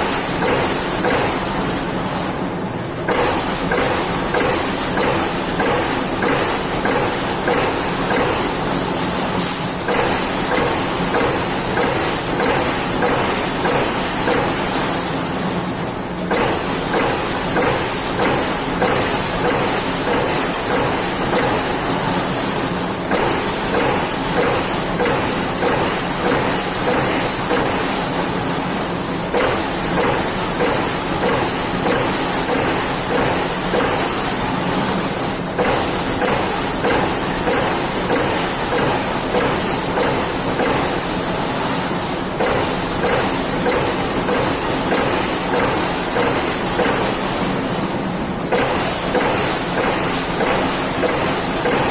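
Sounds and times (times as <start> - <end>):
punch press punching sheet metal: 0.0 - 51.9.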